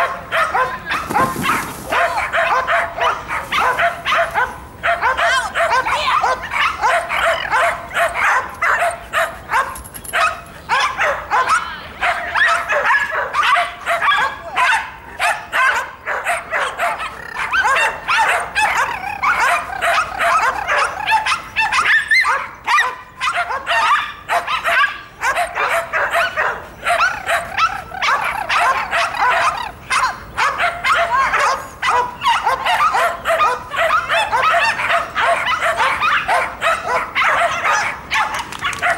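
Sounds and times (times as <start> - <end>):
dog barking and yipping: 0.0 - 38.9.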